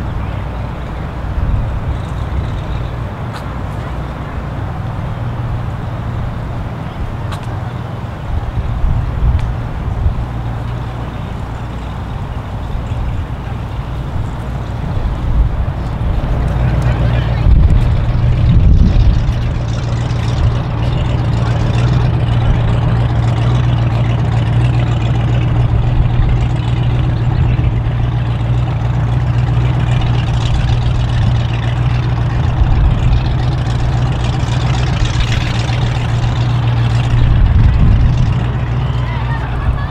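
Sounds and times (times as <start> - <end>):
low engine drone: 0.0 - 39.9
outdoor noise: 0.0 - 39.9.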